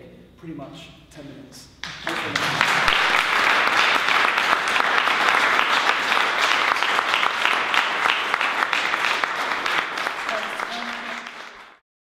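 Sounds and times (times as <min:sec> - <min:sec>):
audience applauding: 0:01.8 - 0:11.8.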